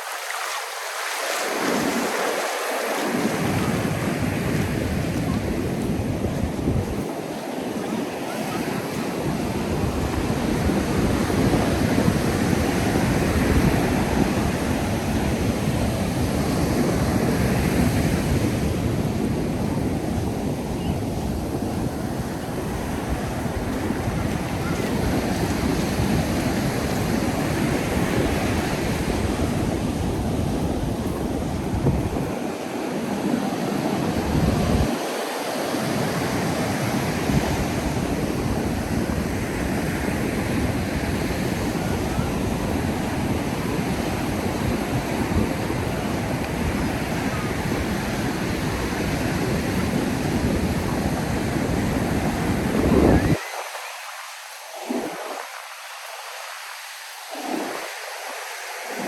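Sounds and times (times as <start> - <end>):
ocean surf on beach: 0.0 - 59.0.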